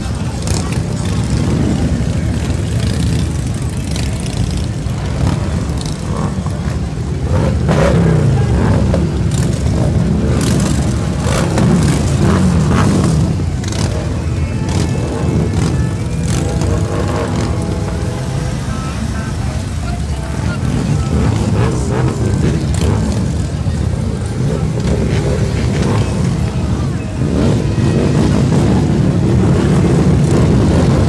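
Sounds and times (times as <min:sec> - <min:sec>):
motorcycles riding past: 0:00.0 - 0:31.0.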